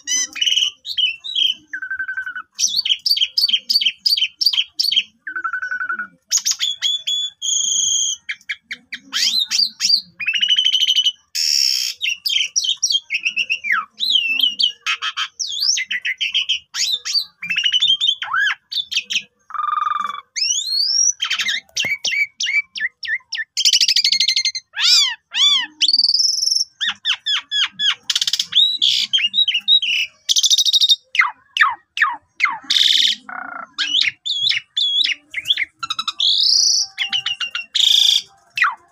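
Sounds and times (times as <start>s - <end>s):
starling singing whistles and chatter: 0.0s - 38.9s.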